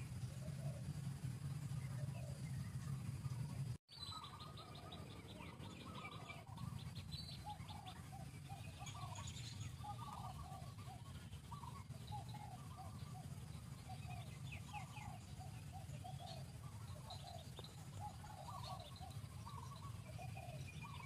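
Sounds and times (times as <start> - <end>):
bird ticking trill: 0.0 - 21.0
birds chirping: 0.0 - 21.0.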